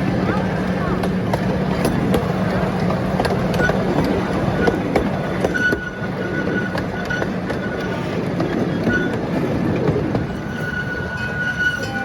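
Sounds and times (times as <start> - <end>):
small train low drone: 0.0 - 12.0
wheels clicking and rattling: 0.0 - 12.0.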